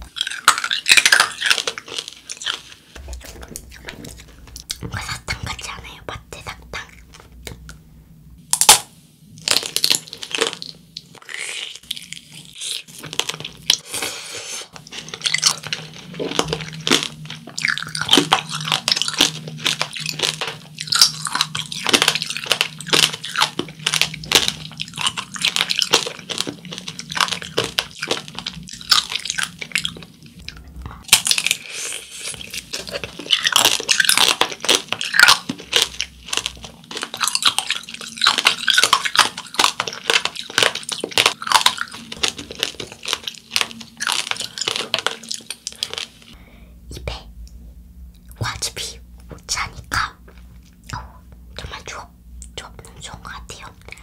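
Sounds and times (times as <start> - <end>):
hard candy shell crunching: 0.0 - 7.6, 8.5 - 14.0, 14.7 - 46.4.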